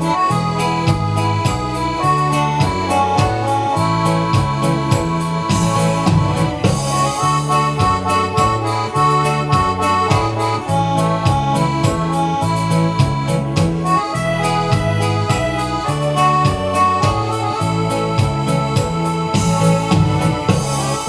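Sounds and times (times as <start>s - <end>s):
electronic keyboard music: 0.0s - 21.0s.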